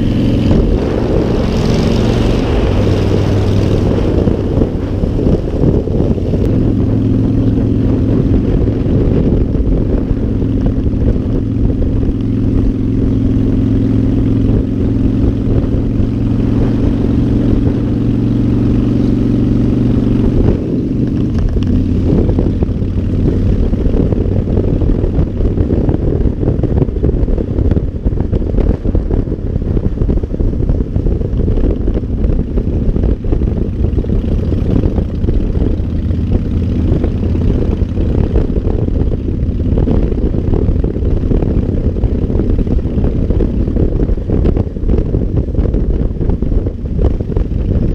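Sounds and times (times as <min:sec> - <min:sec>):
motorcycle engine running: 0:00.0 - 0:47.9
wind noise: 0:00.0 - 0:47.9.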